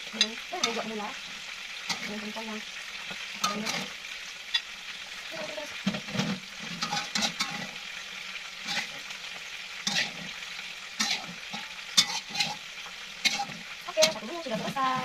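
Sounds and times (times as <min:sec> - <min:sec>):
hot oil sizzling in a wok: 0:00.0 - 0:15.0
metal spatula scraping a wok: 0:00.1 - 0:02.4, 0:03.0 - 0:04.8, 0:05.8 - 0:15.0.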